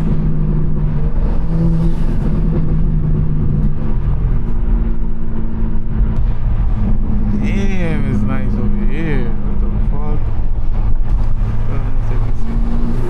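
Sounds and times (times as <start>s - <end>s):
car engine running: 0.0s - 13.0s
road and tyre rumble: 0.0s - 13.0s.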